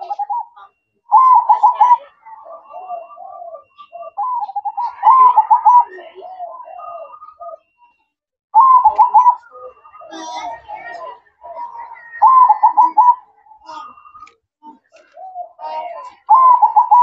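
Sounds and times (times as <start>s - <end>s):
dove cooing: 0.0s - 7.8s, 8.6s - 17.0s.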